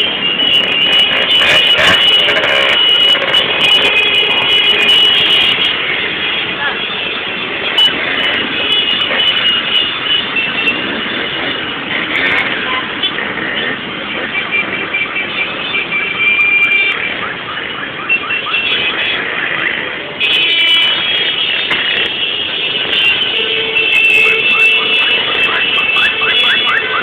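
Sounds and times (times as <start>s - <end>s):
motorcycles revving: 0.0s - 27.0s.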